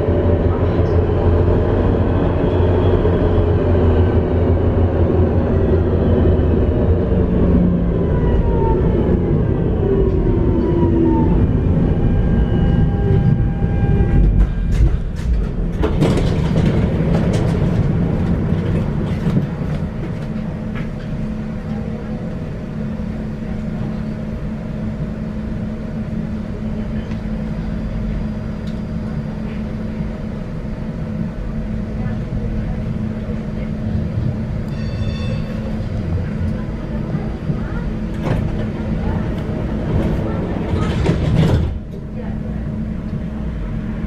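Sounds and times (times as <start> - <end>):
tram rumbling on track: 0.0 - 44.0.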